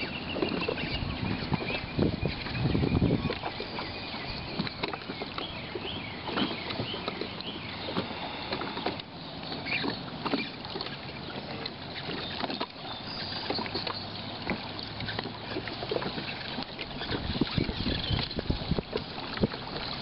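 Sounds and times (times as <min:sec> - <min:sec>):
choppy water slapping: 0:00.0 - 0:20.0
wind: 0:00.0 - 0:20.0.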